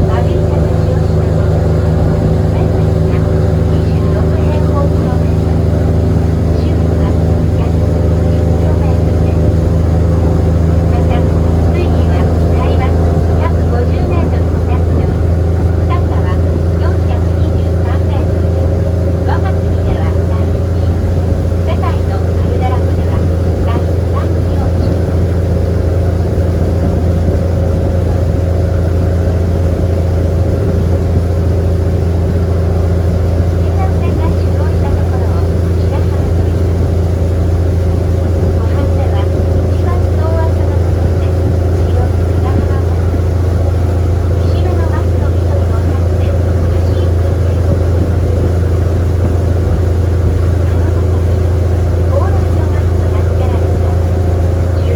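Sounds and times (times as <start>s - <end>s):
boat engine droning: 0.0s - 54.9s
water and hull noise: 0.0s - 54.9s.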